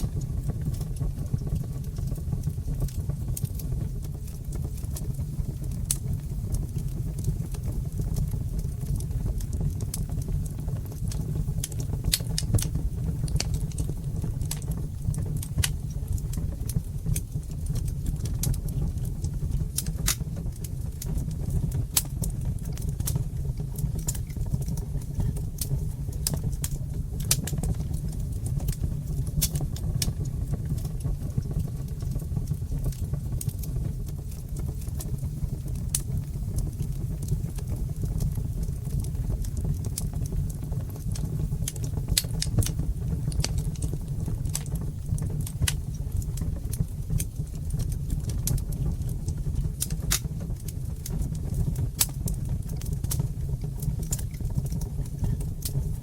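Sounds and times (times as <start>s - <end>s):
fire crackling and popping: 0.0s - 56.0s
low rush of flames: 0.0s - 56.0s.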